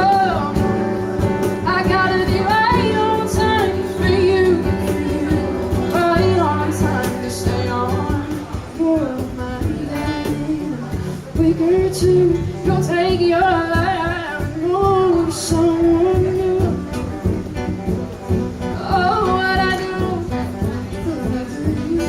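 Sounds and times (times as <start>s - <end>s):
woman singing: 0.0s - 17.4s, 18.6s - 22.0s
cajon percussion: 0.0s - 22.0s
instrumental accompaniment: 0.0s - 22.0s.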